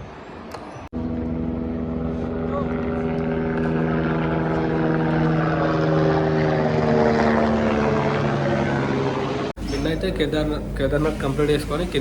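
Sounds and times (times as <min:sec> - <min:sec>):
aircraft engine drone: 0:00.1 - 0:12.0.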